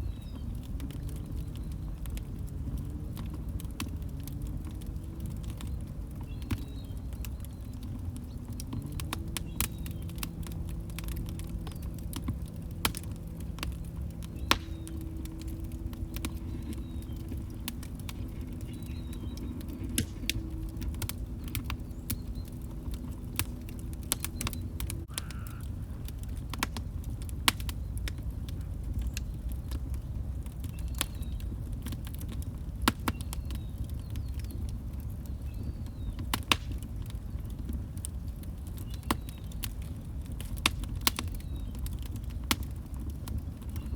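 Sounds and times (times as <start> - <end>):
log fire crackling: 0.0 - 43.9
low rumbling burn: 0.0 - 43.9.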